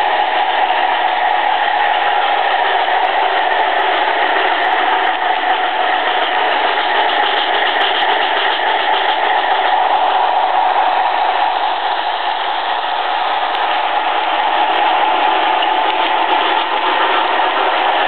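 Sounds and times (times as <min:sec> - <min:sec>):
model train wheels rolling: 0:00.0 - 0:18.0.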